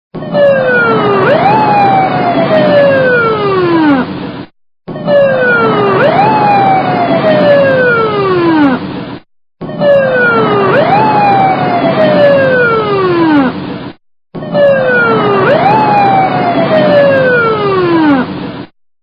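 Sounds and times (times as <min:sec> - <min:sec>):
emergency vehicle siren wailing: 0:00.2 - 0:18.7.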